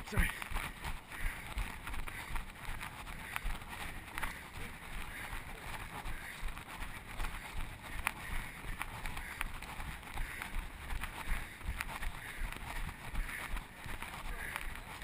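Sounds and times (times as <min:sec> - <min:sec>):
rubbing noise: 0:00.0 - 0:15.0.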